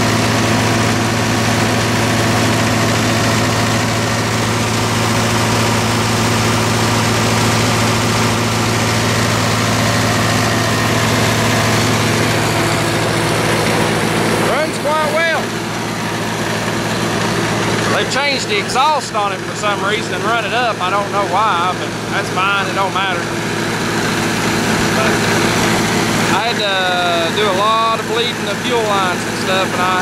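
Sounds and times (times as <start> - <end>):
diesel generator running: 0.0 - 30.0.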